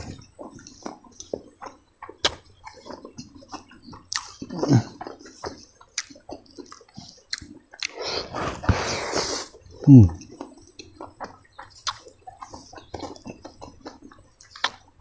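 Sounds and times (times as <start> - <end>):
wet chewing with lip smacks: 0.0 - 15.0.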